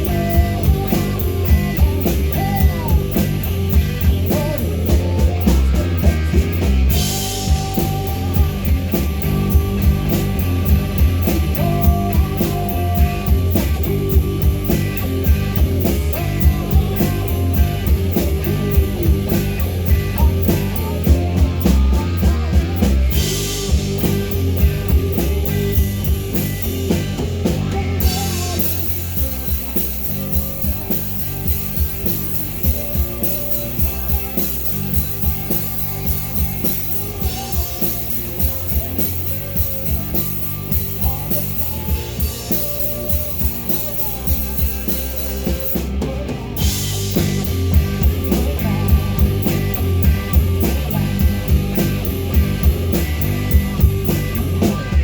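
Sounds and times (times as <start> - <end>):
person singing: 0.0 - 53.0
bass guitar: 0.0 - 55.0
distorted electric guitars: 0.0 - 55.0
drum kit: 0.0 - 55.0.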